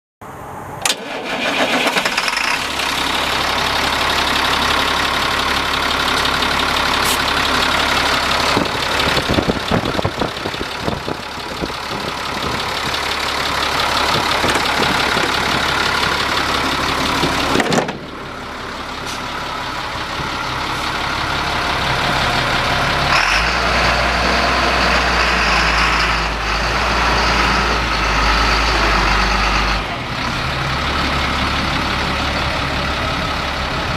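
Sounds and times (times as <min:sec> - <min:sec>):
diesel engine starting and running: 0:00.2 - 0:33.9.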